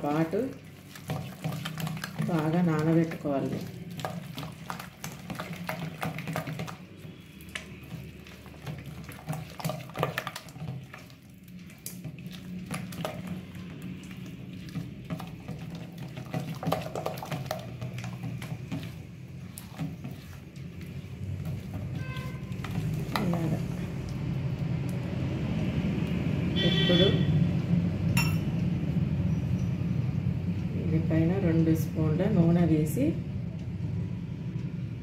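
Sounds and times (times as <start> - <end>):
hand mixing thick batter: 0.0 - 29.0.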